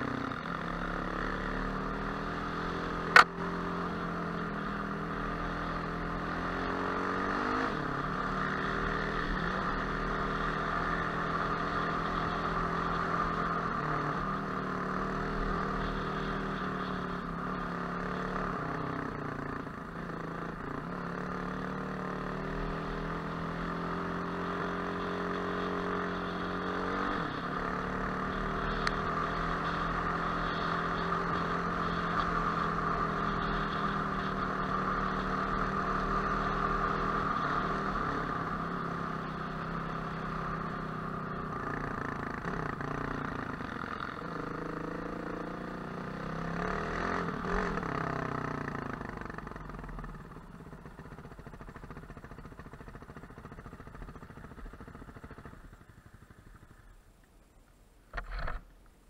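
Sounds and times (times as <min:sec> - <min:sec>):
motorcycle engine running: 0:00.0 - 0:57.1.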